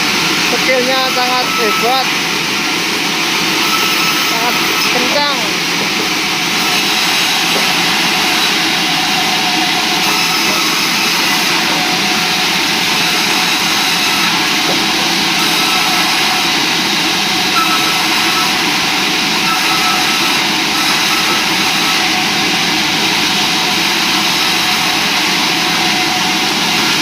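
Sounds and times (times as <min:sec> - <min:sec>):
sawmill saw running: 0:00.0 - 0:27.0.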